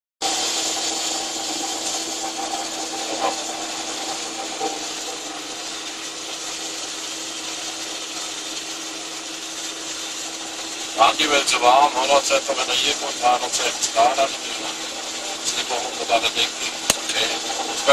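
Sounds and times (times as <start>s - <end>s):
steady hissing rush: 0.2s - 17.9s.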